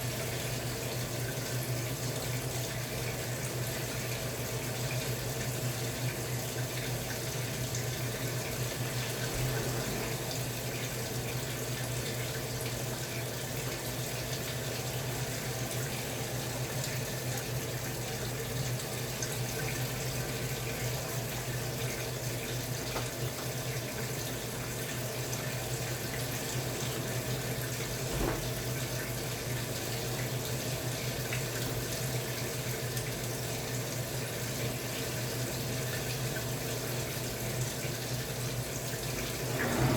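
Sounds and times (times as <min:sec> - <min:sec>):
washing machine humming: 0:00.0 - 0:39.9
water rushing in washing machine: 0:00.0 - 0:39.9.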